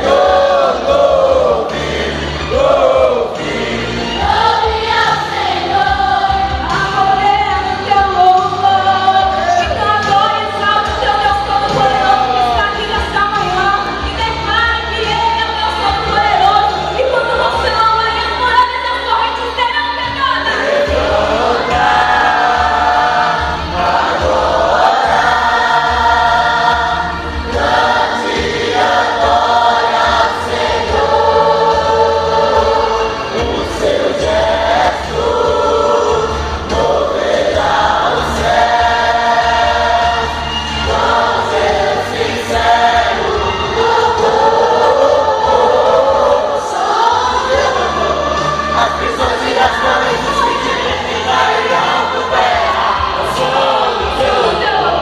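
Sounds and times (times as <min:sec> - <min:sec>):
choir singing gospel song: 0:00.0 - 0:55.0
instrumental accompaniment: 0:00.0 - 0:55.0.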